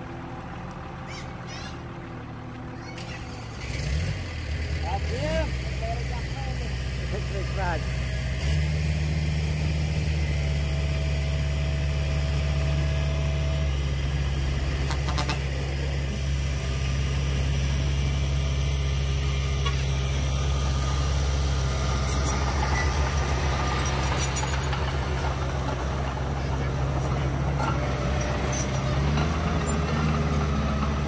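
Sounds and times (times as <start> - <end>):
heavy diesel engine drone: 0.0 - 31.0.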